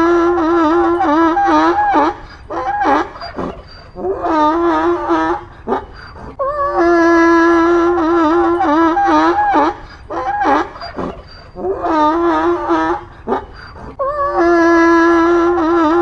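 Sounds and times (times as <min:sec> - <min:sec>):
donkey braying: 0:00.0 - 0:16.0.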